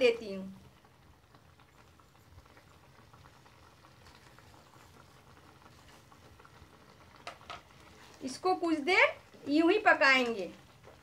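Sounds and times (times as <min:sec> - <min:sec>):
gravy bubbling in a pan: 0:00.0 - 0:11.0.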